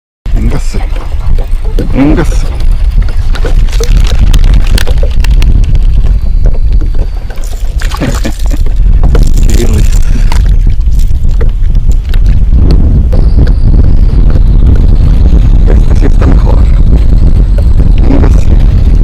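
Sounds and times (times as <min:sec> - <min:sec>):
wind buffeting microphone: 0:00.3 - 0:19.0.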